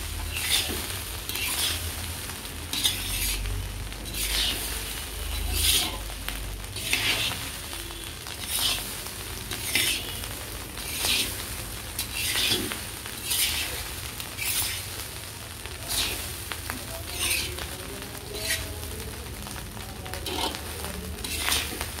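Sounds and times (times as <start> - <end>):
metal spatula stirring in wok: 0.0 - 22.0
rice sizzling in a wok: 0.0 - 22.0.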